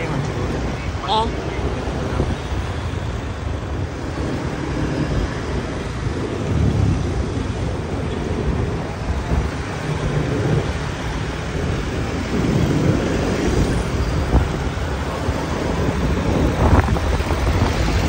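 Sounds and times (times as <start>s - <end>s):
vehicle road and engine noise: 0.0s - 18.0s
wind rushing over microphone: 0.0s - 18.0s.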